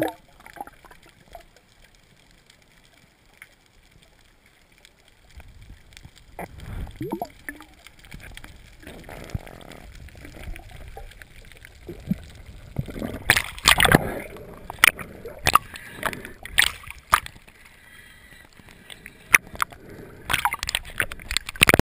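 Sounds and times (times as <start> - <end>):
muffled water sloshing and splashing: 0.0 - 21.8.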